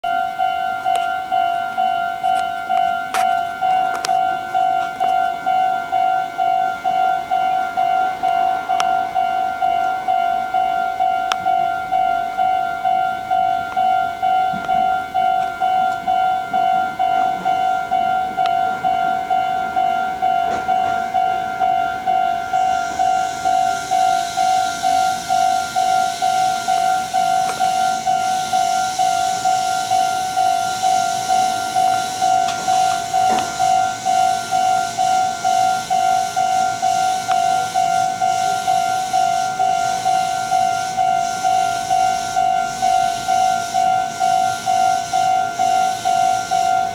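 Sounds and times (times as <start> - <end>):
level-crossing warning bell: 0.0 - 46.9
train rushing over rails: 0.0 - 46.9.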